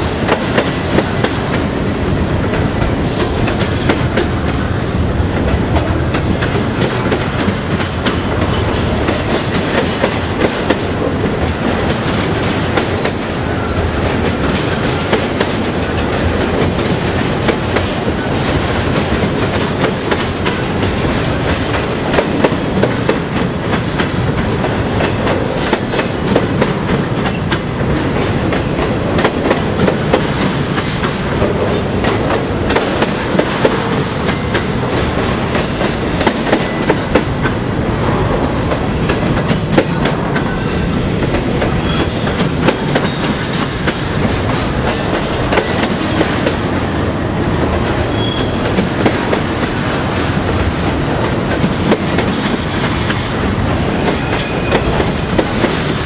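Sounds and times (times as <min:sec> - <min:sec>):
freight train wheels clacking: 0:00.0 - 0:56.0.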